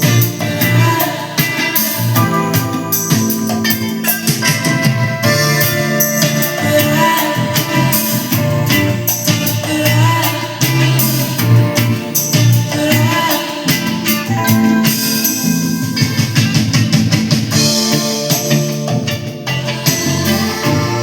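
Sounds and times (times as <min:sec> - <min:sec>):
pop-rock music with singing: 0:00.0 - 0:21.0.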